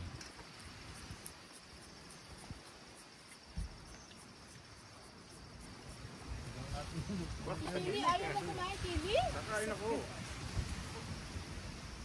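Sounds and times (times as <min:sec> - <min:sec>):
insects chirping: 0:00.0 - 0:12.0
low hiss: 0:00.0 - 0:12.0.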